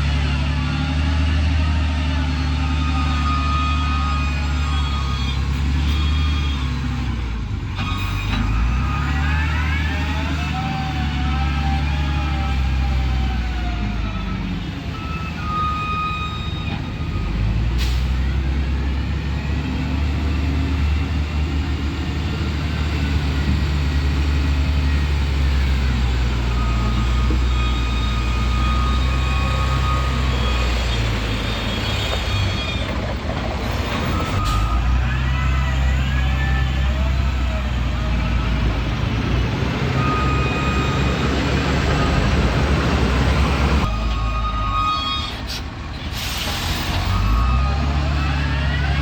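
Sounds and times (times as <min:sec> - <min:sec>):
heavy diesel engine working hard: 0:00.0 - 0:49.0.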